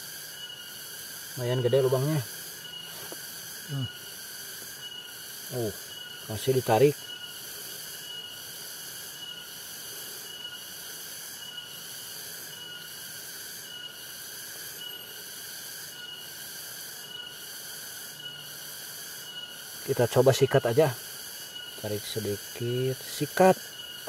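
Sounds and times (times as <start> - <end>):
short insect chirp: 0.0 - 24.0
shrill insect chorus: 0.0 - 24.0.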